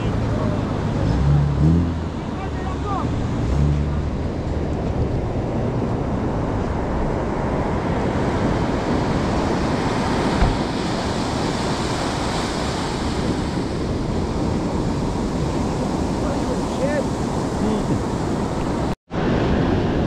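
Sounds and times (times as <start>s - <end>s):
ocean surf breaking: 0.0s - 20.0s
wind on microphone: 3.0s - 20.0s.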